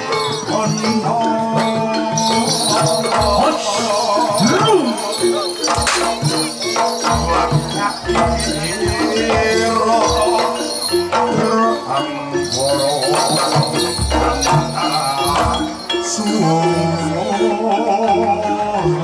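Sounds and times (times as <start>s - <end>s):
drum strokes: 0.0s - 17.0s
bells jingling: 0.0s - 19.0s
metallophone tones: 0.0s - 19.0s.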